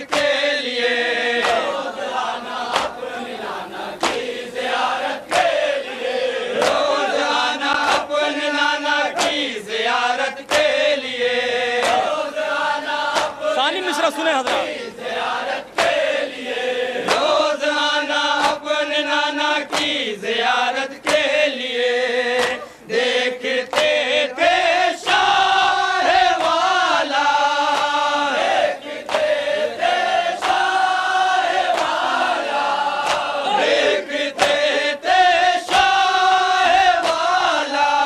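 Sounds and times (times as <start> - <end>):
men chanting a lament: 0.0 - 38.0.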